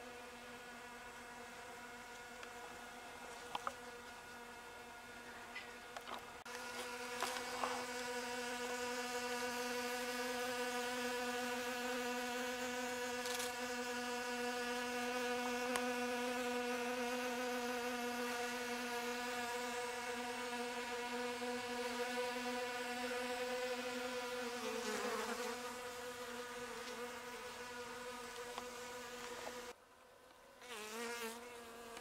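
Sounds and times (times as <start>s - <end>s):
bees buzzing: 0.0s - 29.8s, 30.6s - 32.0s.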